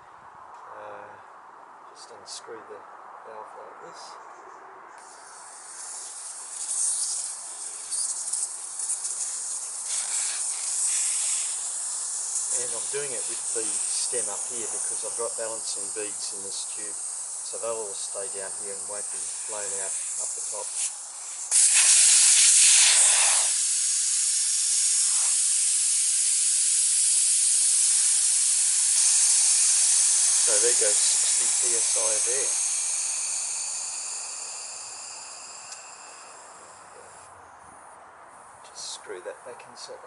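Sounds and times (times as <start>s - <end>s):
air hissing from tyre valve: 5.0s - 37.3s.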